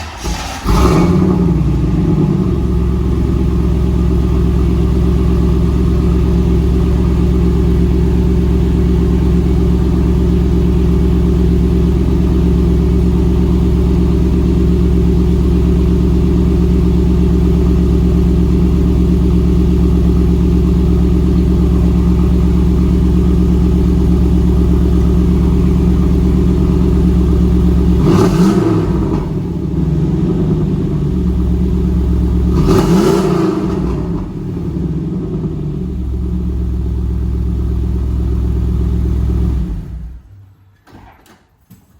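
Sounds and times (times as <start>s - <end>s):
car engine starting and idling: 0.0s - 40.8s.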